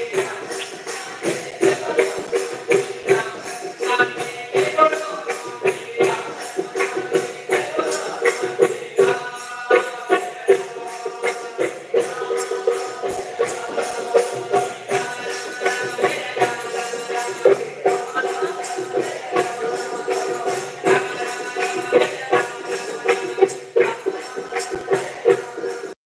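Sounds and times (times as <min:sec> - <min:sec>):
frame drum: 0:00.0 - 0:25.9
hand percussion beat: 0:00.0 - 0:26.0
men singing devotional song: 0:00.0 - 0:26.0.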